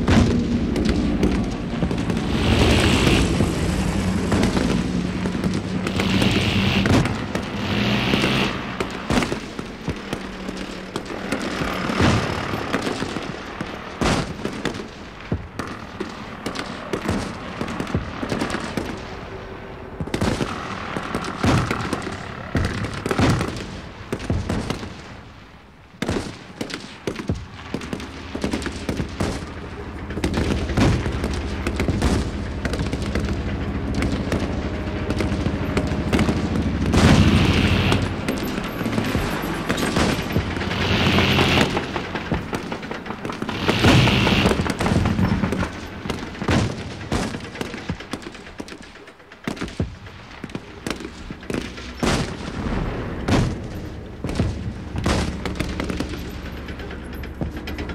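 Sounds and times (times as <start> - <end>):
loud long blasts: 0.0 - 48.6
machine-gun bursts: 0.0 - 57.9
rifle shots: 0.0 - 57.9.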